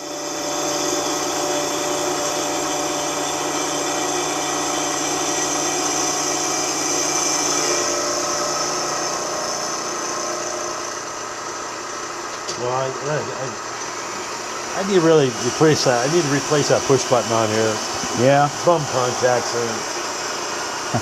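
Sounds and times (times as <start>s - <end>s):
machine hum: 0.0s - 21.0s
milling cutter cutting iron: 0.0s - 21.0s.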